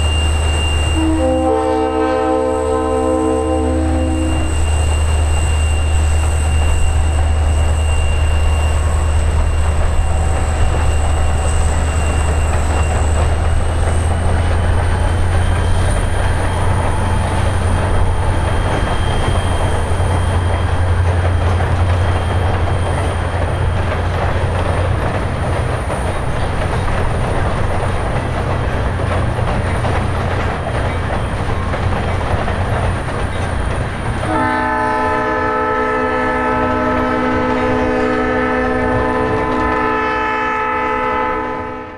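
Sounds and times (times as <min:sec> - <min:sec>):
locomotive engine drone: 0:00.0 - 0:41.8.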